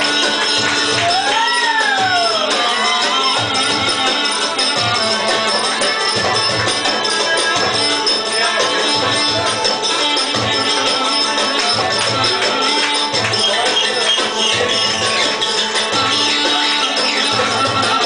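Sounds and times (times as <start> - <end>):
jingling percussion: 0.0 - 18.0
steady drum beat: 0.0 - 18.0
wavering melody: 0.0 - 18.0.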